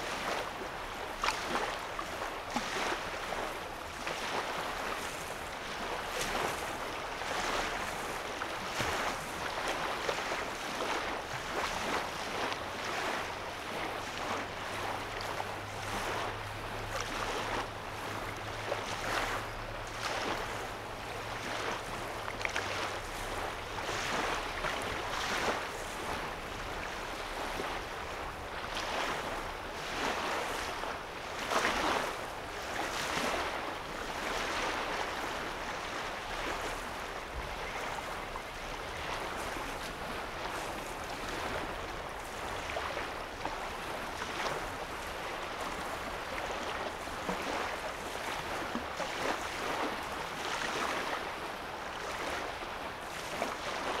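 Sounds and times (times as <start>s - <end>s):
waves lapping on shore: 0.0s - 54.0s.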